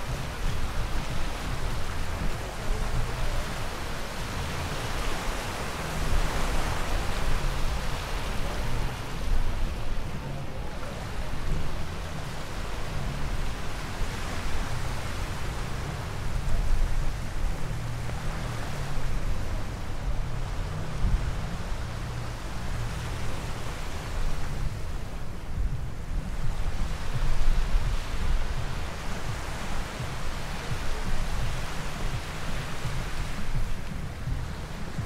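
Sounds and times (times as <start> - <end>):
low uneven rumble: 0.0 - 35.0
small waves washing onto sand: 0.0 - 35.0.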